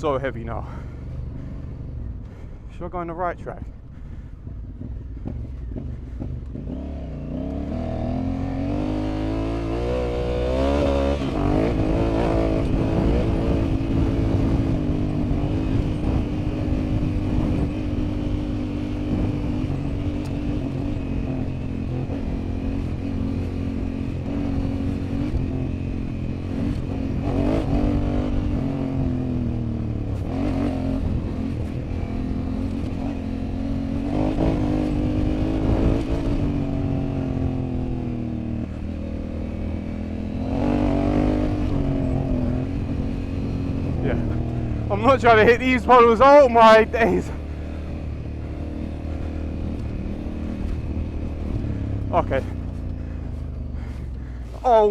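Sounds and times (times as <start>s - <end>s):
motorcycle engine revving: 4.1s - 54.9s.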